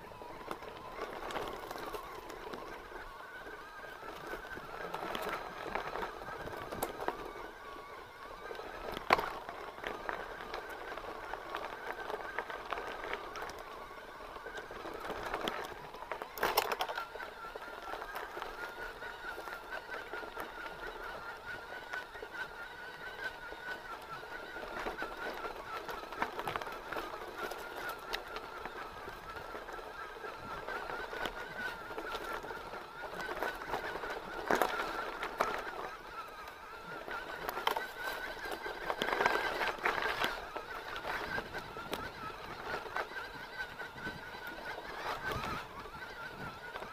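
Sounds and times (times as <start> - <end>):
rattling on rough ground: 0.0 - 46.9.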